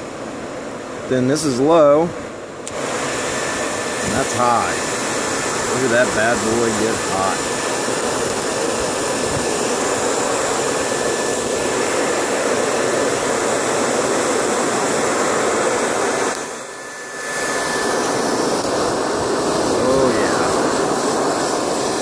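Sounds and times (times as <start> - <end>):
hair dryer blowing air: 2.6 - 22.0.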